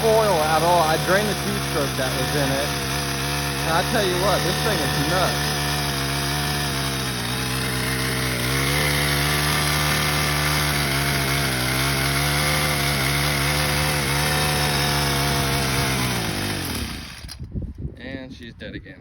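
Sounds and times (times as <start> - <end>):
small engine running fast: 0.0 - 17.5.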